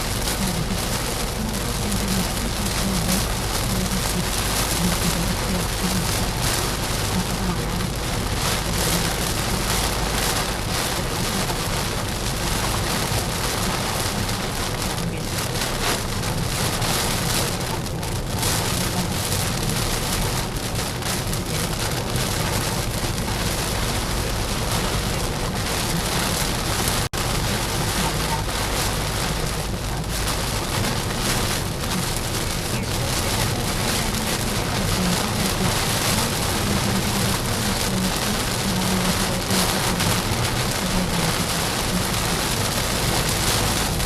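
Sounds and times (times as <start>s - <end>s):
heavy rain on a car: 0.0s - 44.0s.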